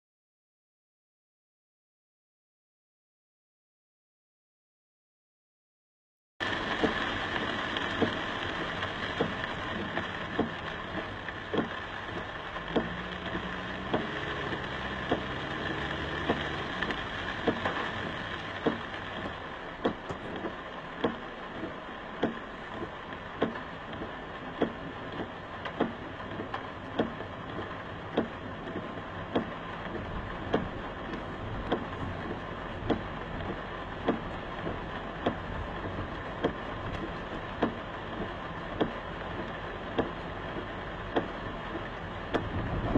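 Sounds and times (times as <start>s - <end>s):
heavy rain: 6.4s - 42.9s
road noise: 6.4s - 42.9s
windshield wipers knocking: 6.4s - 42.9s.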